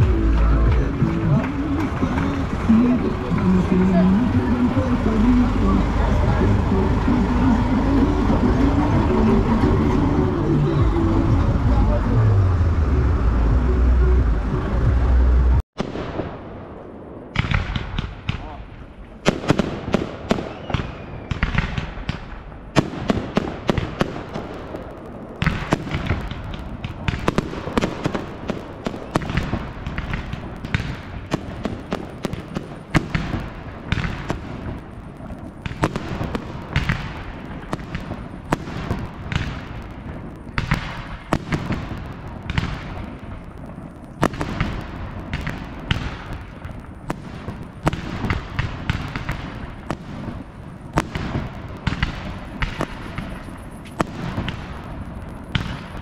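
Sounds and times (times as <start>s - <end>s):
deep firework booms: 0.0s - 56.0s
fireworks bangs and crackles: 0.0s - 56.0s.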